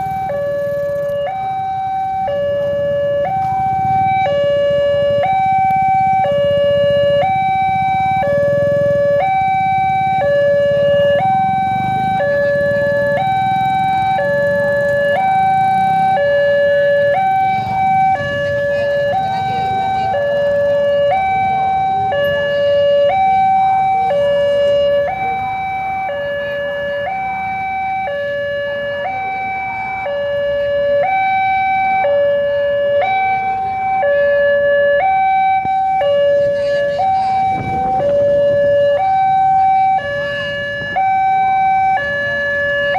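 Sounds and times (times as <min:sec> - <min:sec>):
level crossing two-tone alarm: 0:00.0 - 0:42.9.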